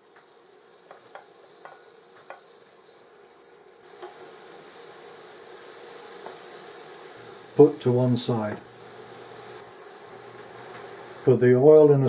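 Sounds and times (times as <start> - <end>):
food sizzling in a saucepan: 0.0 - 12.0.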